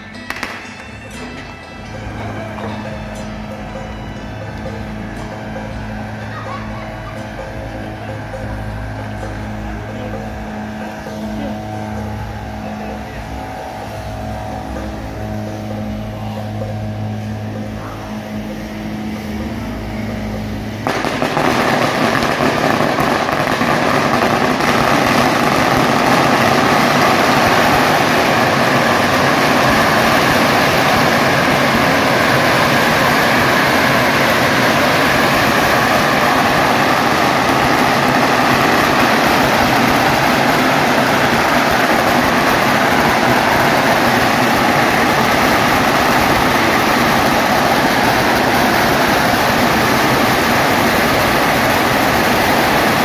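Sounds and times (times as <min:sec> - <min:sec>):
firecrackers crackling: 0:00.0 - 0:53.0.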